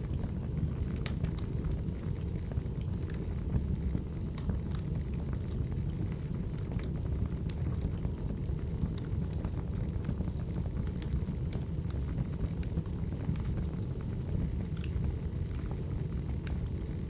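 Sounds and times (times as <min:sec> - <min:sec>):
fire burning with crackles and pops: 0:00.0 - 0:17.0.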